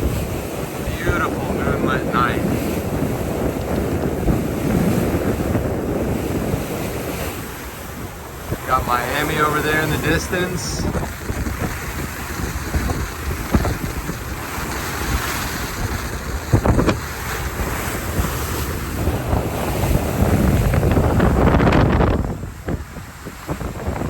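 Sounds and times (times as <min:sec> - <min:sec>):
water rushing along boat hull: 0:00.0 - 0:24.0
wind buffeting microphone: 0:00.0 - 0:24.0.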